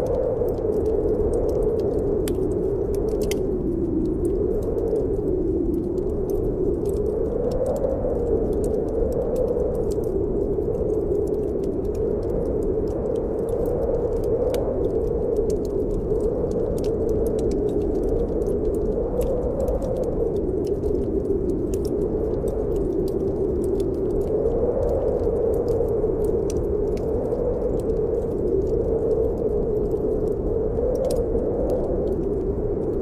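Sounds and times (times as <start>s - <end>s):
wind howling: 0.0s - 33.0s
wood fire crackling: 0.0s - 33.0s.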